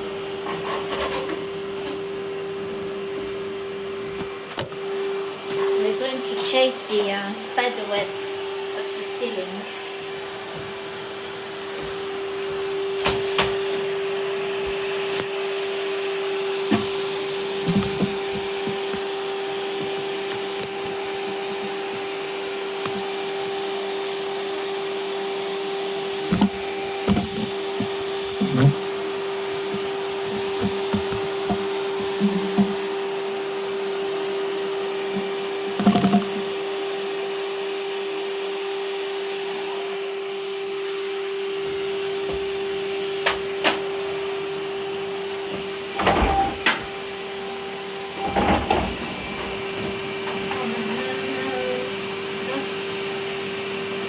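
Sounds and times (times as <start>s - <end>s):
vacuum cleaner humming: 0.0s - 54.0s.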